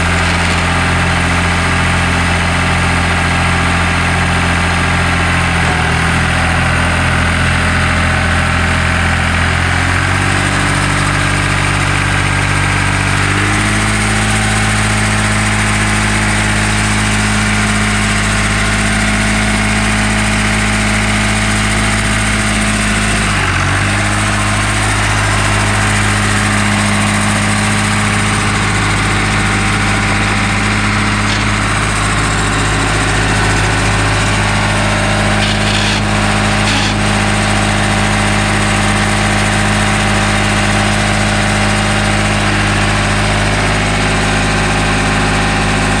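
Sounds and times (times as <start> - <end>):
tractor diesel engine idling: 0.0 - 46.0.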